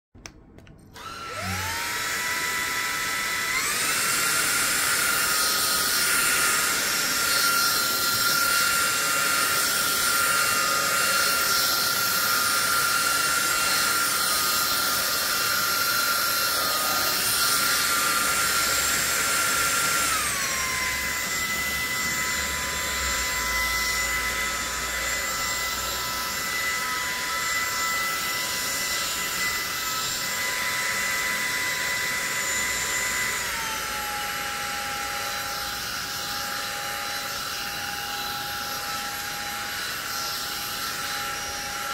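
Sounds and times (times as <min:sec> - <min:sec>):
vacuum cleaner motor whine: 0:00.6 - 0:41.9.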